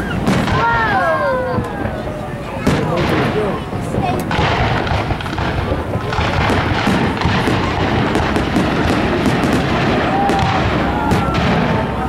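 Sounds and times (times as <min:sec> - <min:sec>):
continuous fireworks rumble: 0:00.0 - 0:12.0
fireworks bangs and crackles: 0:00.0 - 0:12.0.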